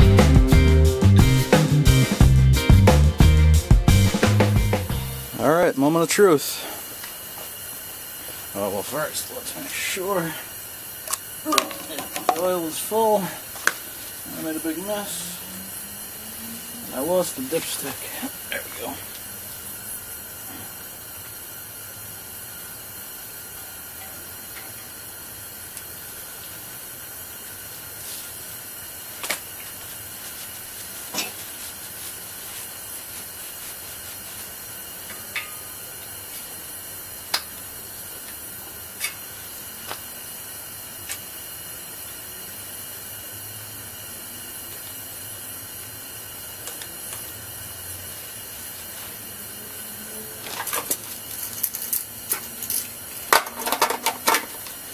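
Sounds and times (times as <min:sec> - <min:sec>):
gas heater hissing: 0:00.0 - 0:54.9.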